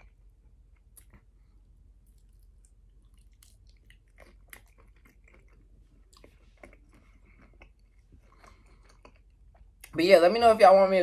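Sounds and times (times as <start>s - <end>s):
faint chewing with mouth clicks: 0.0s - 10.0s.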